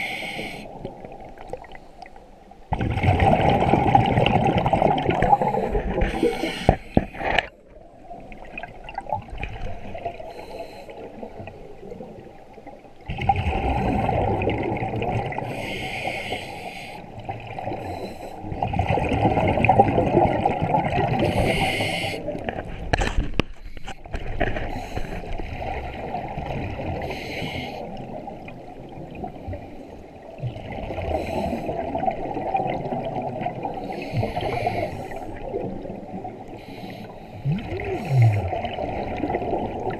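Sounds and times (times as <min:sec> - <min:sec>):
exhaled air bubbling underwater: 0:00.0 - 0:39.9.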